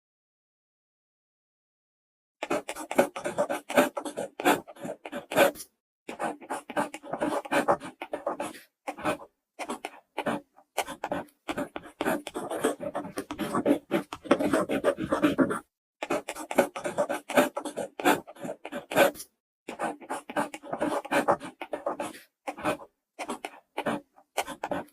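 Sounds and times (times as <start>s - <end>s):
pen scratching on paper: 2.4s - 24.9s.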